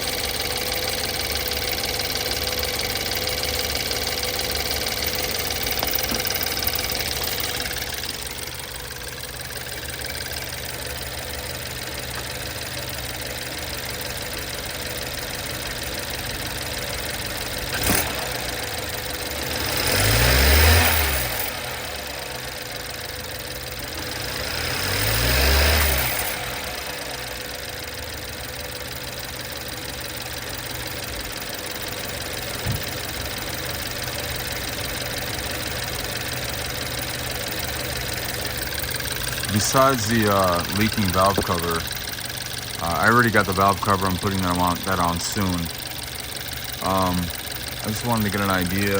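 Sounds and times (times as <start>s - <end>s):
car engine idling and revving: 0.0s - 48.9s
rattle: 0.0s - 48.9s.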